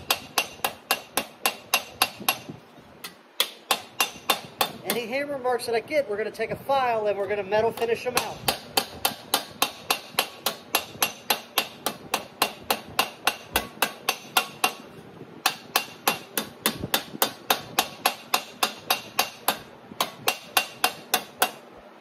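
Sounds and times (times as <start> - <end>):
hammer striking sheet steel: 0.0 - 5.0, 8.2 - 21.6.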